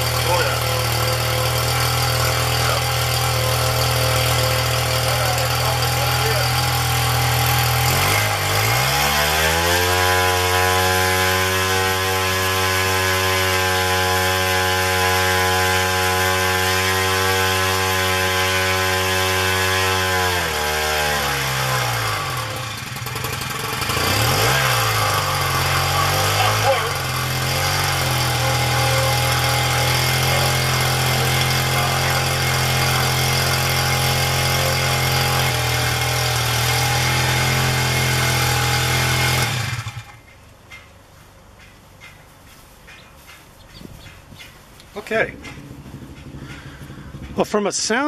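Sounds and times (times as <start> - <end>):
two-stroke engine revving: 0.0 - 40.3, 45.0 - 48.0.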